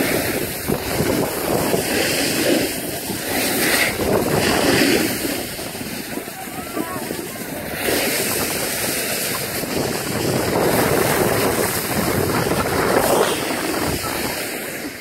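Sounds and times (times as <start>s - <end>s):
skis hissing over snow: 0.0s - 15.0s
wind buffeting microphone: 0.0s - 15.0s.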